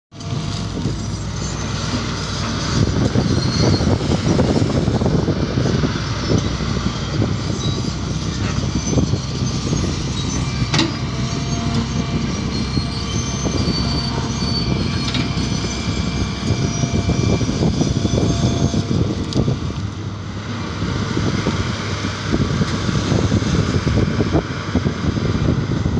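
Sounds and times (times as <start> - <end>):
excavator diesel engine: 0.1 - 25.9.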